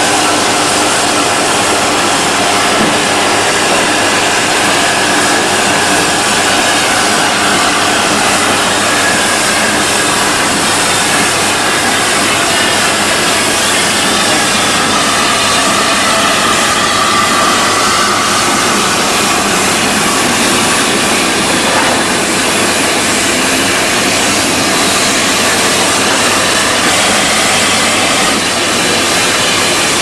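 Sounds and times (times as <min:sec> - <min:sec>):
train running: 0:00.0 - 0:30.0.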